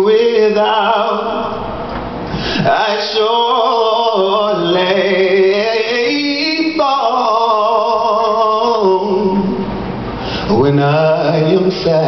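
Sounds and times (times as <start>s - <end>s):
man singing a hymn: 0.0s - 1.8s, 2.4s - 9.6s, 10.4s - 12.0s.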